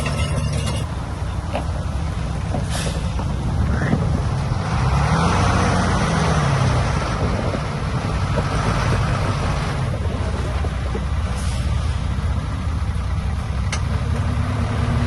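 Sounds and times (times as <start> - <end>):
heavy diesel engines running: 0.0 - 15.0.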